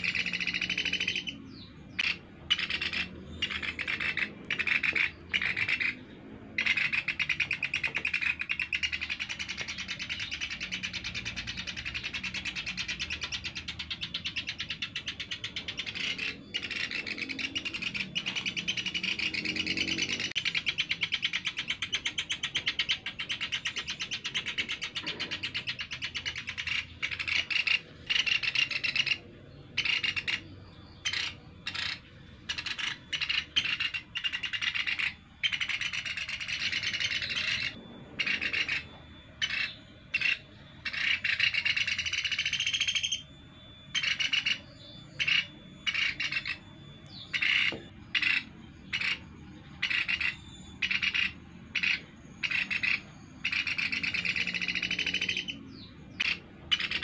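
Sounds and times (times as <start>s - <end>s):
woodpecker high chatter: 0.0s - 57.0s.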